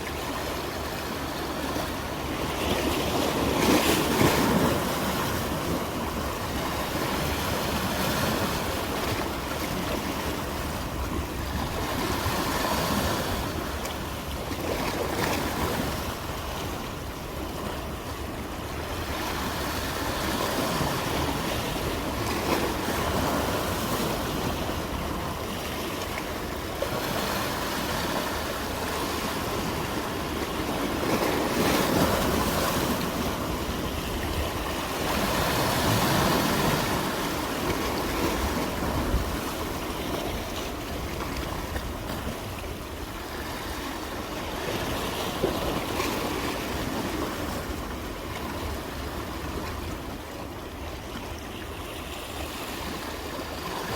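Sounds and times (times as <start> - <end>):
waves breaking: 0.0 - 53.9.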